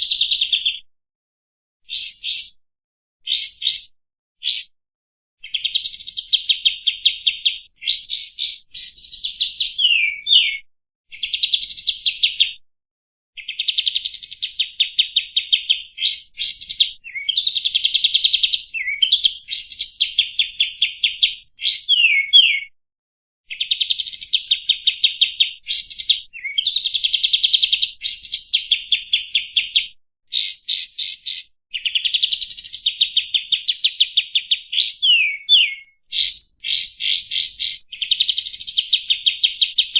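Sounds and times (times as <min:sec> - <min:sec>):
songbird chattering song: 0:01.9 - 0:02.6, 0:03.3 - 0:04.7, 0:05.4 - 0:12.5, 0:13.4 - 0:22.7, 0:23.5 - 0:39.9.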